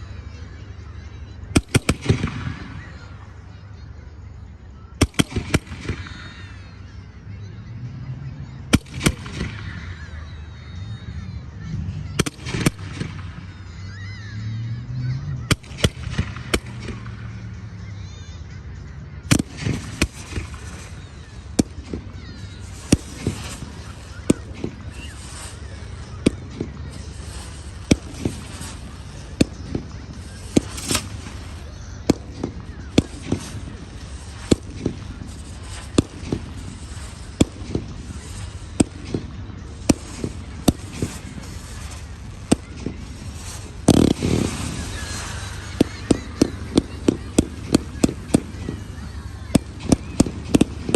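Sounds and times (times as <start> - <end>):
fireworks popping: 0.0 - 3.6, 4.8 - 7.0, 7.9 - 18.5, 19.1 - 50.9.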